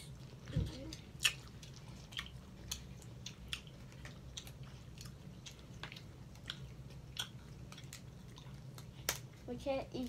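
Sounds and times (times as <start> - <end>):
chewing: 0.0 - 10.0
low steady hum: 0.0 - 10.0.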